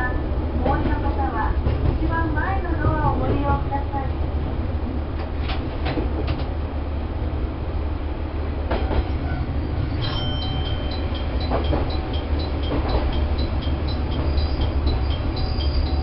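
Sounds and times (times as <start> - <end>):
railcar engine rumble: 0.0 - 16.0.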